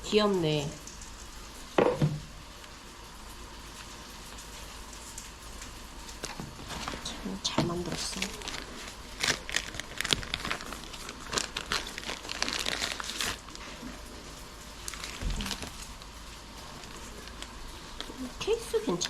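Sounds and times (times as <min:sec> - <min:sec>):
packaging crinkling and rustling: 0:03.7 - 0:19.0.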